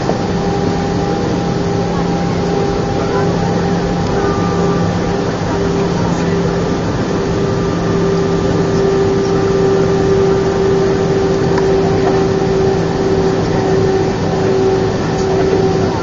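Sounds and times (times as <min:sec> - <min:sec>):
jet engine cabin hum: 0:00.0 - 0:16.0.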